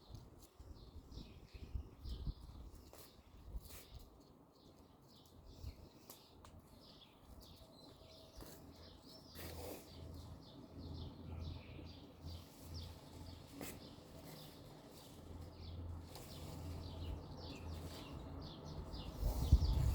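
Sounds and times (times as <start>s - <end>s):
songbirds chirping: 0.0s - 19.9s.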